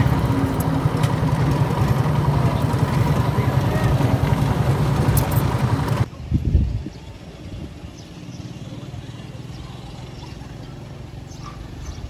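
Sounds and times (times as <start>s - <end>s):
engine running: 0.0s - 12.0s
low rumble of traffic: 0.0s - 12.0s.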